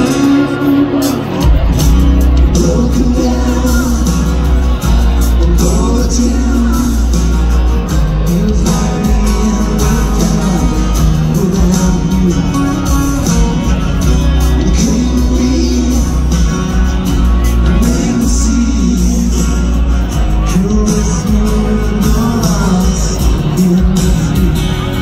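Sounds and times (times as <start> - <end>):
bass guitar: 0.0 - 25.0
lead singer singing: 0.0 - 25.0
strummed acoustic guitars: 0.0 - 25.0.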